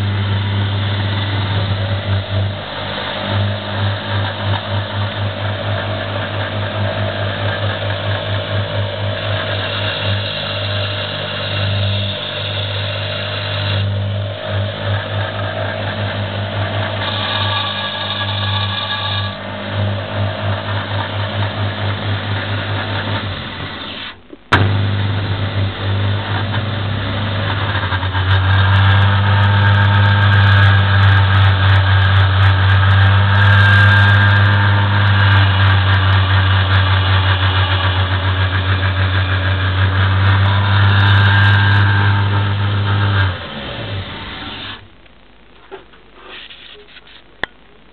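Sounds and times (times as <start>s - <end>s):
sander belt whirring: 0.0s - 44.9s
low electrical hum: 0.0s - 47.9s.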